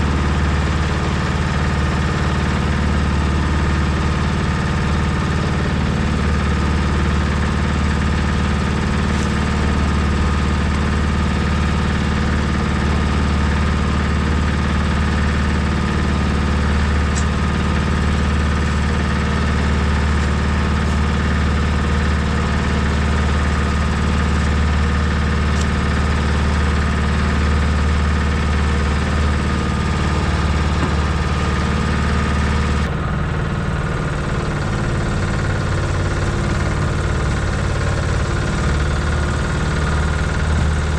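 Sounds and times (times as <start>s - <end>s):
cement mixer engine running: 0.0s - 40.9s.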